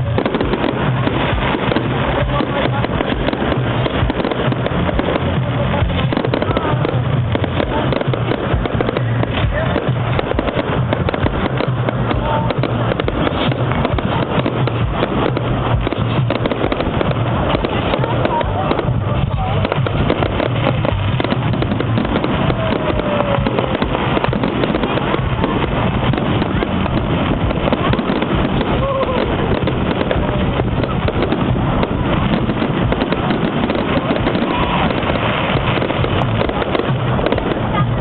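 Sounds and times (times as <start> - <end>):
crowd voices: 0.0 - 38.0
fireworks crackling and popping: 0.0 - 38.0.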